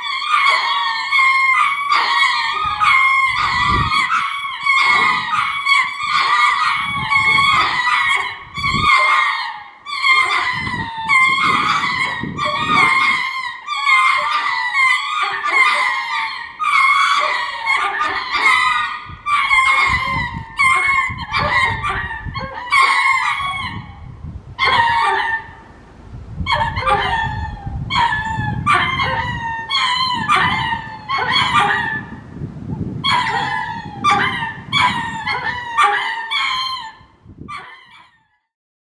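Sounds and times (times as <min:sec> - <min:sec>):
lemur high nasal calls: 0:00.0 - 0:25.8, 0:26.4 - 0:38.5.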